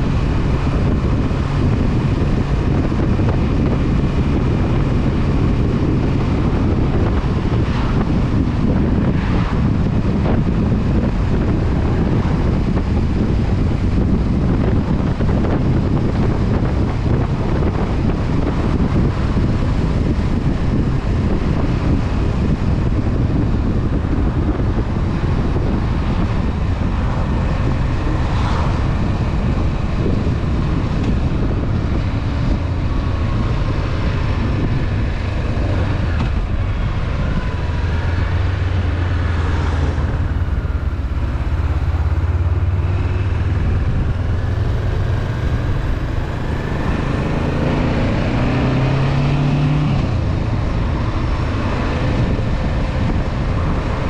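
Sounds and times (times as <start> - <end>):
rush of noise: 0.0 - 54.0.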